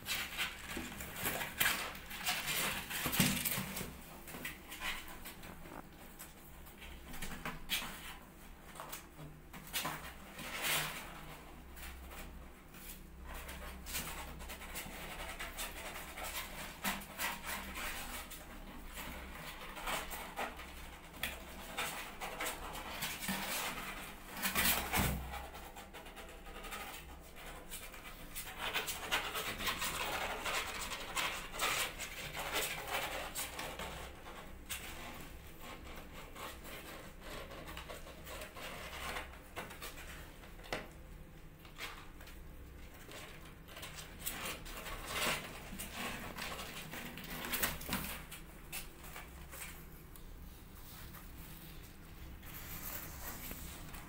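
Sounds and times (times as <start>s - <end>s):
kittens' claws scratching cardboard: 0.0s - 54.0s.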